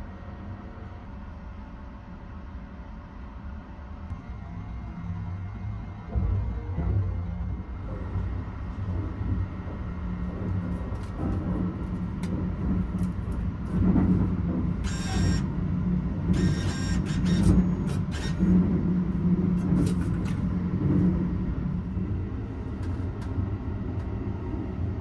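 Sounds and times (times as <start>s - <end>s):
train running low rumble: 0.0s - 25.0s.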